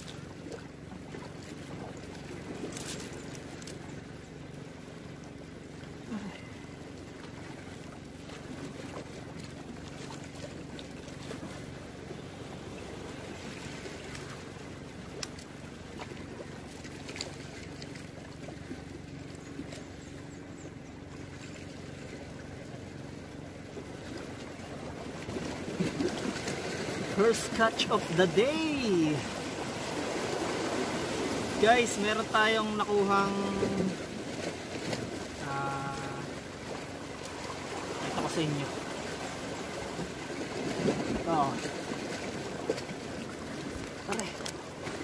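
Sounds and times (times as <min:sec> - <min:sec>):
low steady hum: 0:00.0 - 0:45.0
sea wash: 0:00.0 - 0:45.0
wind: 0:00.0 - 0:45.0.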